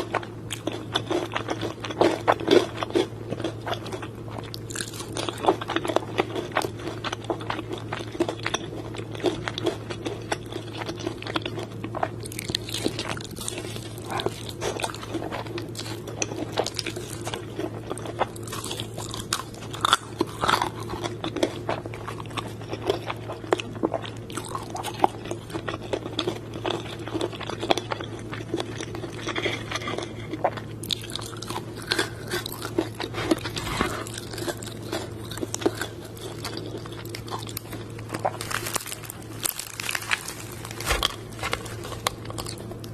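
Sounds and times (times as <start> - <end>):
crunching and chewing crispy food: 0.0 - 42.9.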